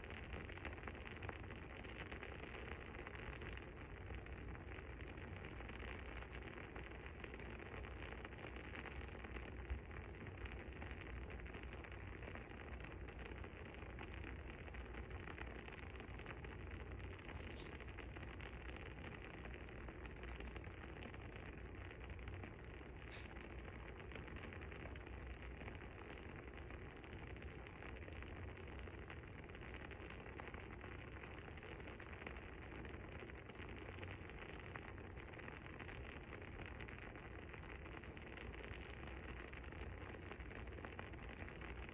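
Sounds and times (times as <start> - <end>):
fire crackling: 0.0 - 41.9
fire popping: 0.0 - 41.9.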